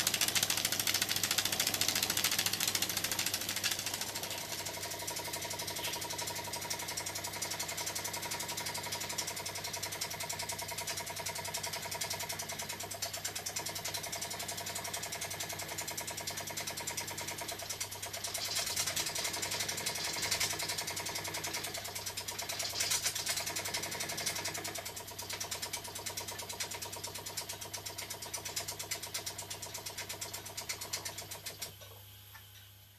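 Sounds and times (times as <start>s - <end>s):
steam engine rapid ticking: 0.0s - 31.6s.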